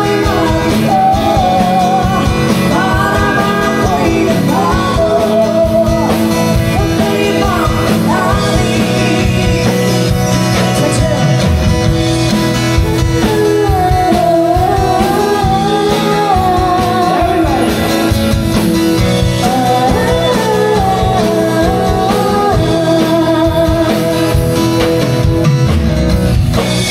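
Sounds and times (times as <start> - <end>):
woman singing into a microphone: 0.0 - 12.0, 12.8 - 18.4, 19.2 - 24.8
acoustic guitar: 0.0 - 26.9
drums: 0.0 - 26.9
keyboard: 0.0 - 26.9.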